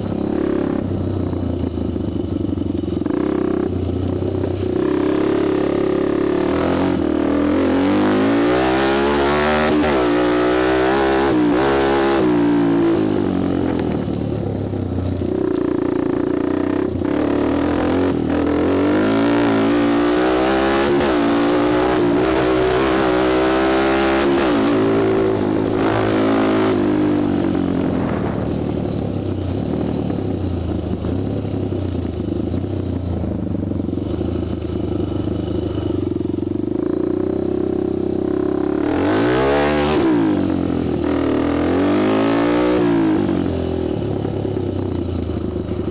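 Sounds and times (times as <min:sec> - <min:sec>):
quad bike engine revving: 0:00.0 - 0:45.9.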